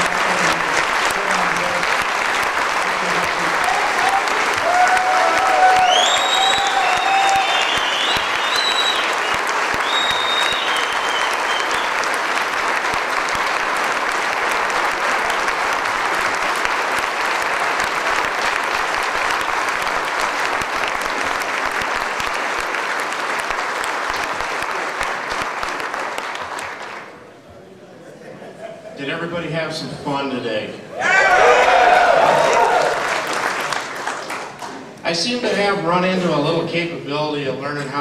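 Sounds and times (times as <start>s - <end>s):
audience applauding: 0.0s - 27.3s, 31.0s - 35.0s.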